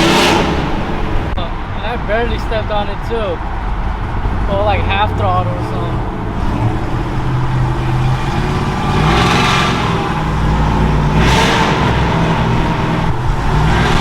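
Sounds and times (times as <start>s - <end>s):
pickup truck engine revving: 0.0s - 14.0s.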